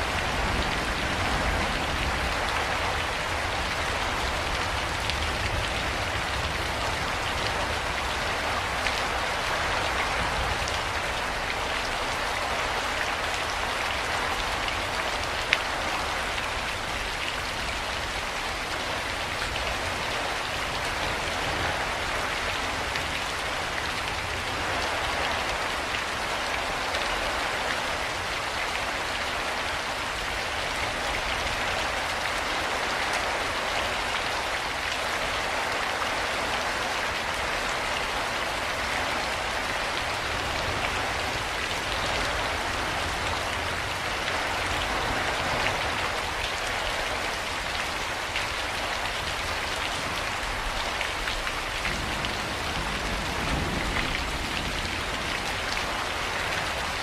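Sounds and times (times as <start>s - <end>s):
rain pattering: 0.0s - 57.0s.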